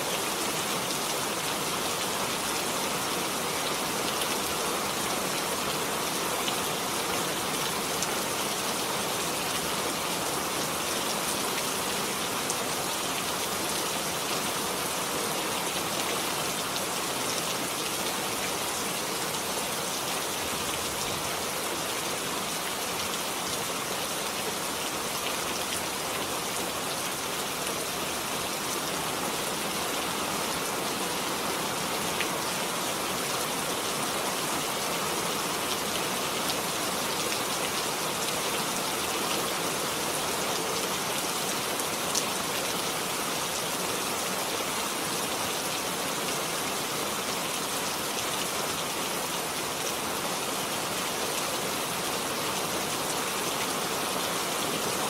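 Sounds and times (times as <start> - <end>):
rain on a surface: 0.0 - 55.0.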